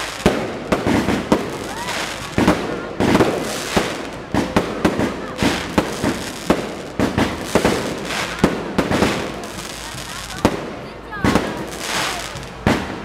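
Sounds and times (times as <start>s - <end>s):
continuous noisy wash: 0.0s - 13.0s
fireworks bursting: 0.0s - 13.0s.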